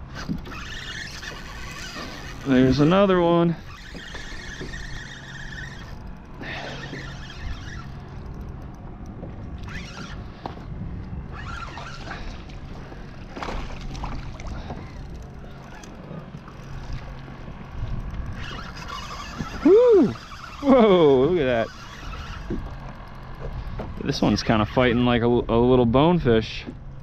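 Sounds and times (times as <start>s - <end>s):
water sloshing and splashing: 0.0s - 24.2s
steady low hum: 0.0s - 27.0s.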